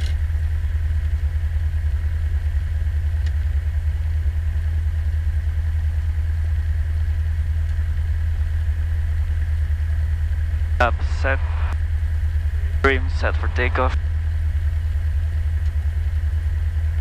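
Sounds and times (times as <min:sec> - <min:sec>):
aircraft engine idling drone: 0:00.0 - 0:17.0.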